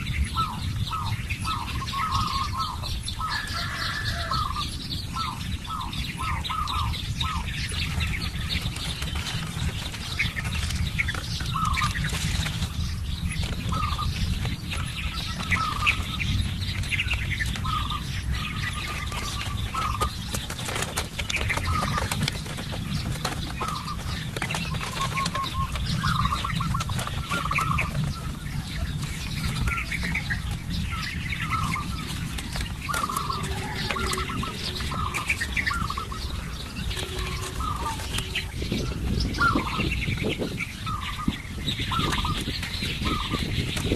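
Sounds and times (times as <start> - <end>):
small birds chirping: 0.0 - 43.9
steady low rumble: 4.2 - 43.9.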